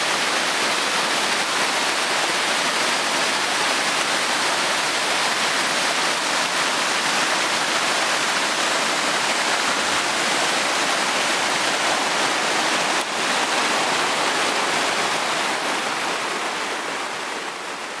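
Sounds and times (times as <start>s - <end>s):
stream rushing over boulders: 0.0s - 18.0s.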